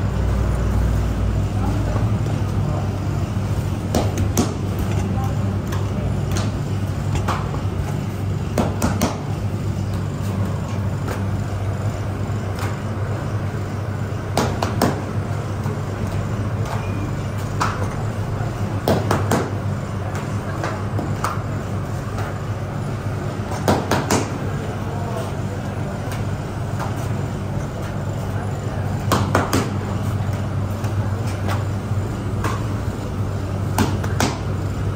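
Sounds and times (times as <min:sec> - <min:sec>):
electric hum of machinery: 0:00.0 - 0:34.9.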